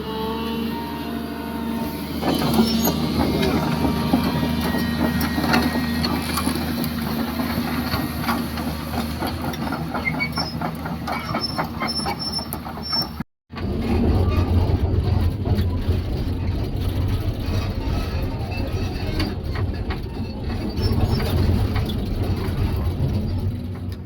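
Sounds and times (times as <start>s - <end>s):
excavator diesel engine running: 0.0s - 24.0s
clanks creaks and squeals: 0.2s - 24.0s.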